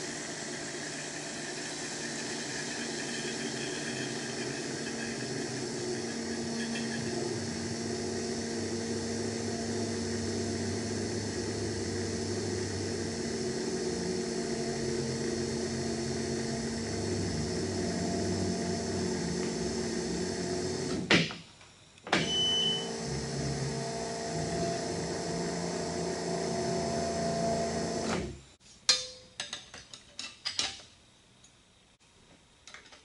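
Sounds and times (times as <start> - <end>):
electric fuel pump humming: 0.0 - 21.1, 22.1 - 28.5.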